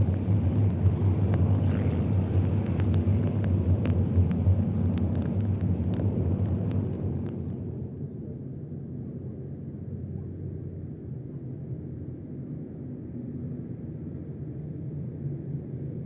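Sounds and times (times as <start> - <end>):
distant propeller planes droning: 0.0 - 16.0.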